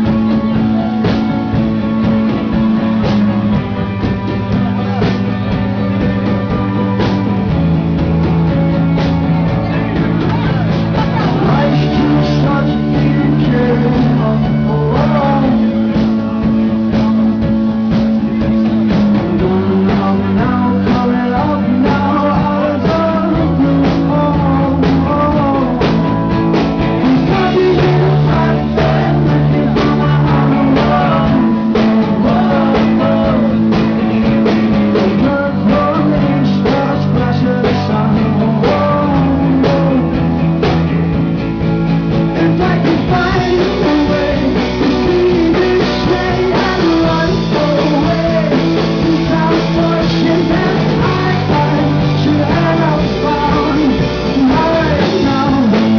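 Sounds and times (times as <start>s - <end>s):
rock band playing: 0.0s - 55.9s
person singing: 9.2s - 40.7s, 42.2s - 55.9s.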